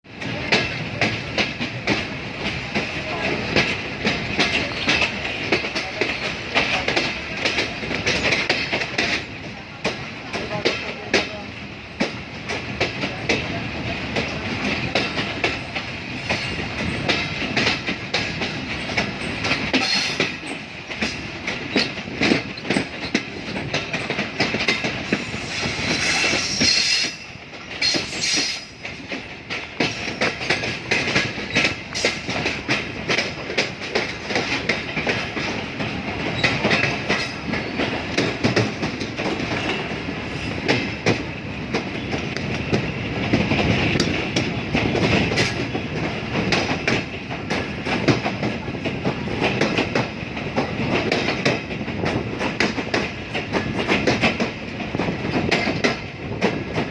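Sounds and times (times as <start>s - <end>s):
train wheels clattering on track: 0.0s - 56.9s.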